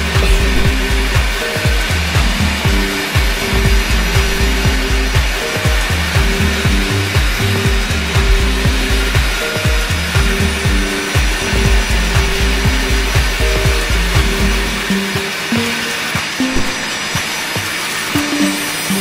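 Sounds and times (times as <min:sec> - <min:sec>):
background music with steady beat: 0:00.0 - 0:19.0.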